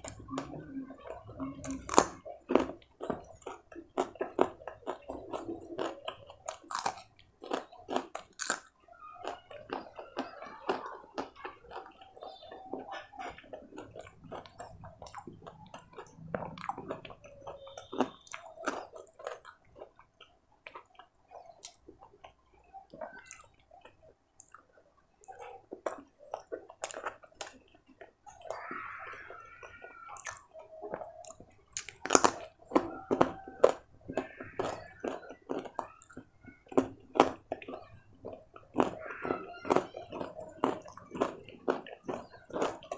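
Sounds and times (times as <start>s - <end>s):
man chewing with wet mouth sounds: 0.0s - 42.9s.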